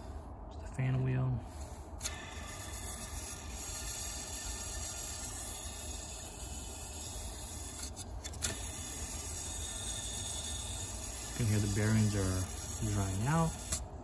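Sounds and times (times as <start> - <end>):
motor bearings rasping: 1.6 - 14.0.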